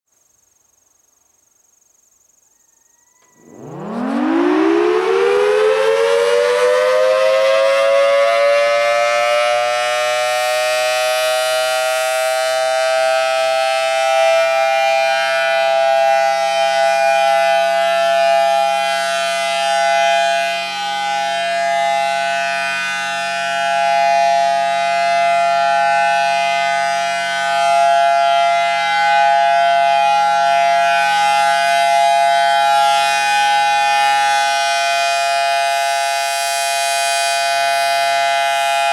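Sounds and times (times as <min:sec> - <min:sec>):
warning siren wailing: 0:03.0 - 0:38.9.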